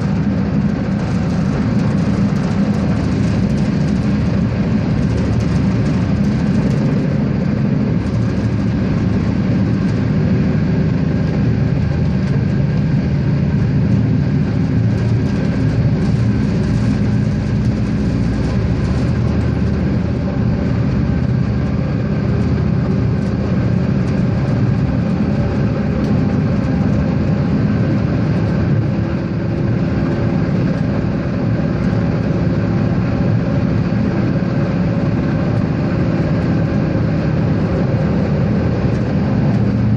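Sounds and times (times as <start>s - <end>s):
diesel railcar engine drone: 0.0s - 39.9s
train running on rails: 0.0s - 39.9s.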